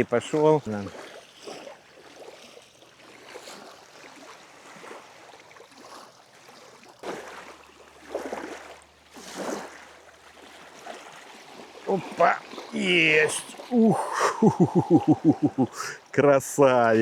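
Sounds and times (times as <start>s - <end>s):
small waves lapping: 0.0s - 17.0s
wind: 0.0s - 17.0s.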